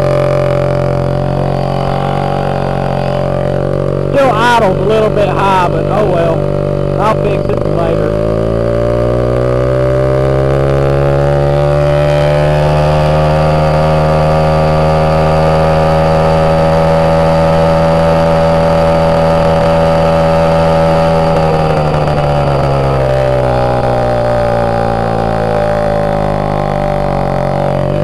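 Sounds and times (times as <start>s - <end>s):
moped engine running: 0.0s - 28.0s.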